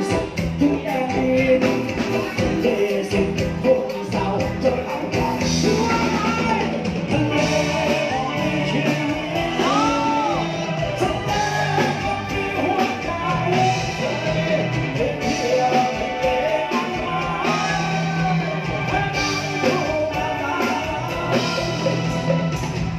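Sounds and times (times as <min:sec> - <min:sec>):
drums: 0:00.0 - 0:22.9
electric bass: 0:00.0 - 0:22.9
live band music: 0:00.0 - 0:22.9
person singing: 0:00.0 - 0:22.9.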